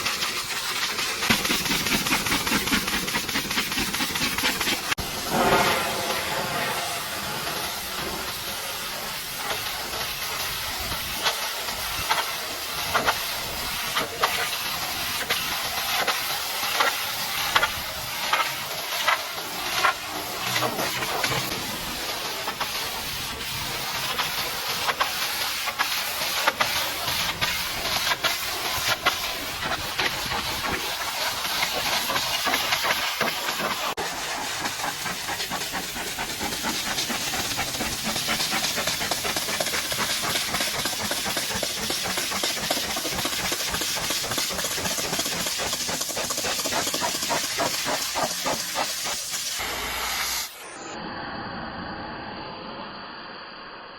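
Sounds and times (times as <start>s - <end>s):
pressure washer spraying vehicle: 0.0s - 50.9s.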